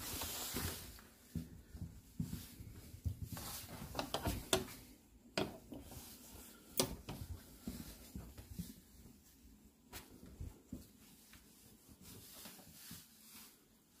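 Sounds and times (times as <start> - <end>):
footsteps: 0.0 - 13.6.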